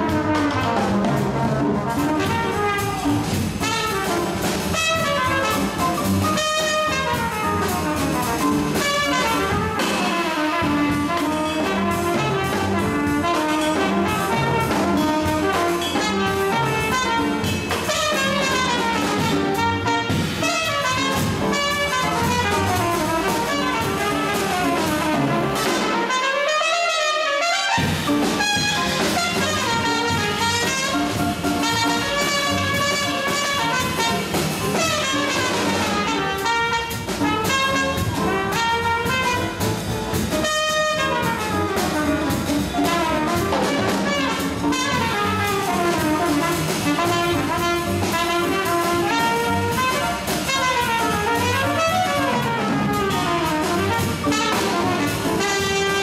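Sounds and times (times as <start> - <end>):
upright bass: 0.0 - 25.9, 27.8 - 56.0
drum kit: 0.0 - 56.0
trumpet soloing: 0.0 - 56.0.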